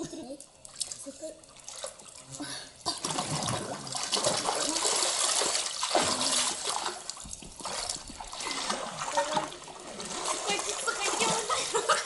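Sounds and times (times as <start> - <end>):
people wading through water: 0.5 - 12.0.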